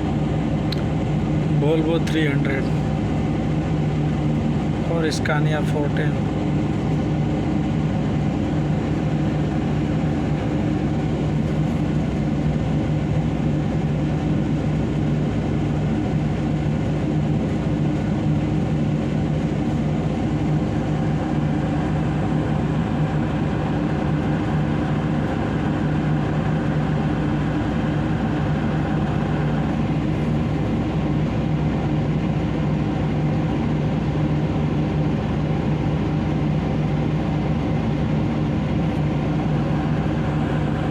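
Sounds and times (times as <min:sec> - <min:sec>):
heavy diesel engine droning: 0:00.0 - 0:15.4, 0:16.0 - 0:33.6, 0:37.9 - 0:40.9.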